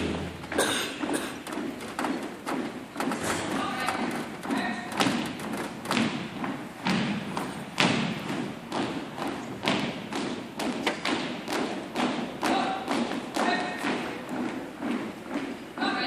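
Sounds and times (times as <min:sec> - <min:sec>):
marching footsteps on wooden floor: 0:00.0 - 0:16.0.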